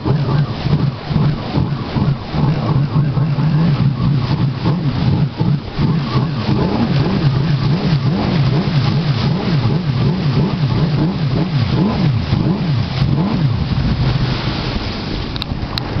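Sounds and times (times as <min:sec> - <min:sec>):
jet ski engine running: 0:00.0 - 0:16.0
rush of wind and water: 0:00.0 - 0:16.0.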